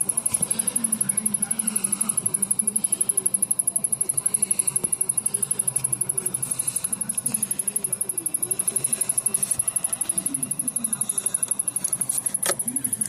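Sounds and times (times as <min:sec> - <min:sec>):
rapid electrical ticking: 0:00.0 - 0:13.0.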